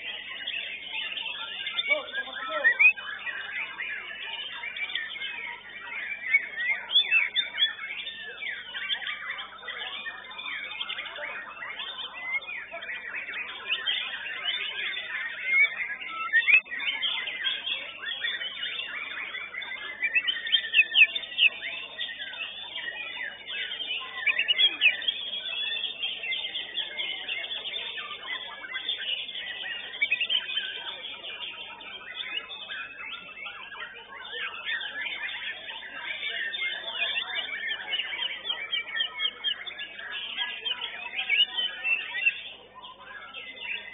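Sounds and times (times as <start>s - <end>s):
birds singing whistles and trills: 0.0s - 43.9s.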